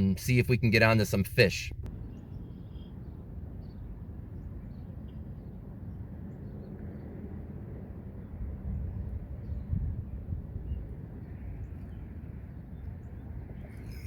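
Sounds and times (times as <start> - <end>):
wind noise on microphone: 1.7 - 14.0.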